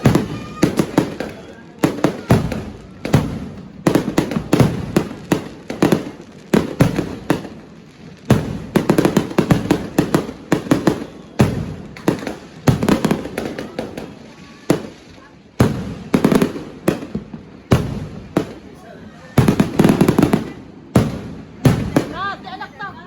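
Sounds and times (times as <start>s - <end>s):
fireworks and firecrackers banging: 0.0s - 23.0s.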